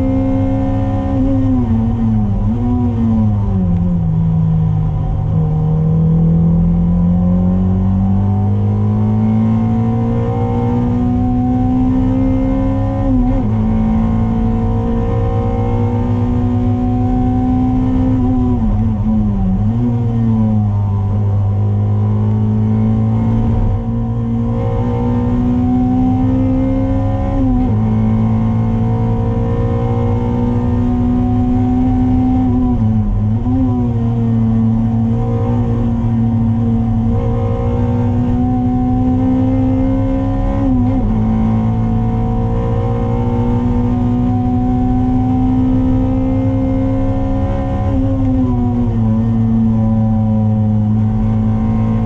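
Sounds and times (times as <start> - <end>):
car engine at high revs: 0.0 - 52.0.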